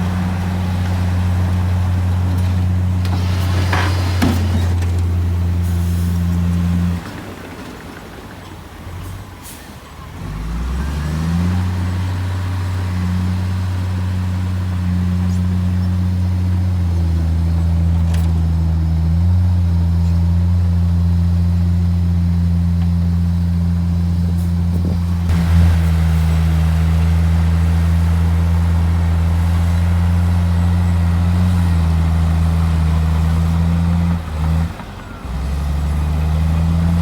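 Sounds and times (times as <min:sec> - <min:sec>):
heavy diesel engine revving: 0:00.0 - 0:37.0.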